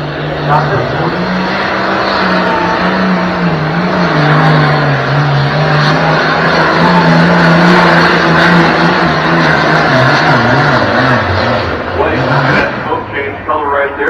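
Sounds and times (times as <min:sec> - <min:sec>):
tractor engine running at full power: 0:00.0 - 0:14.0.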